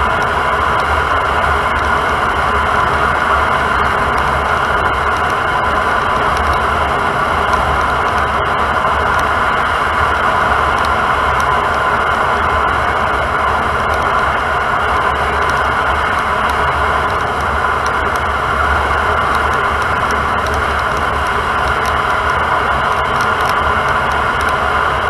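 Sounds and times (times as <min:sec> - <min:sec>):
tyre road roar: 0:00.0 - 0:25.0.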